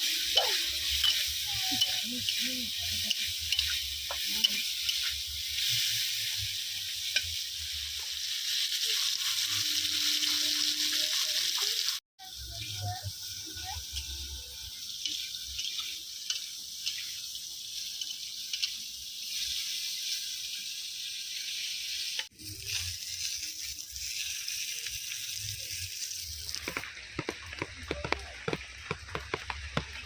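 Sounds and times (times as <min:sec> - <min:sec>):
oil crackling and popping: 0:00.0 - 0:12.0, 0:14.8 - 0:30.0
food sizzling in hot oil: 0:00.0 - 0:30.0.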